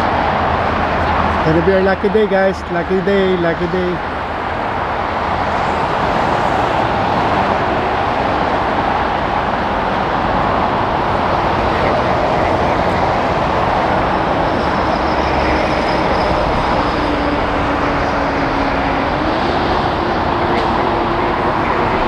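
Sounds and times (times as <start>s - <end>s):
high turbine whine: 0.0s - 22.0s
jet engines rushing: 0.0s - 22.0s.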